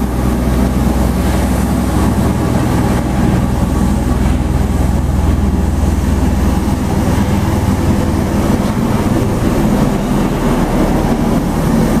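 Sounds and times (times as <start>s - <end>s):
aircraft rotor drone: 0.0s - 12.0s.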